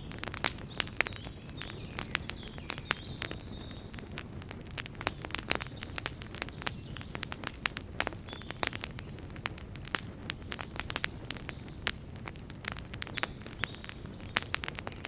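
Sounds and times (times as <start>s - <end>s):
campfire pops and crackles: 0.0s - 15.0s
low rumble of flames: 0.0s - 15.0s.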